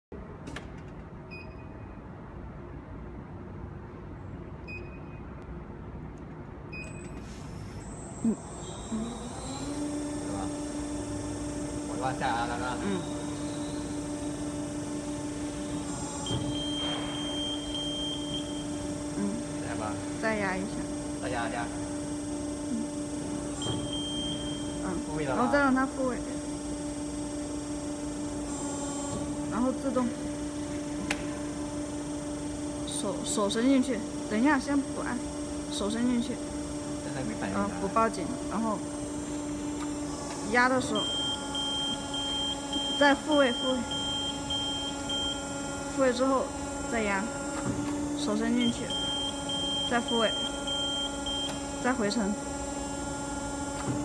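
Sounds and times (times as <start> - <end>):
hydraulic pump motor humming: 7.7 - 54.0.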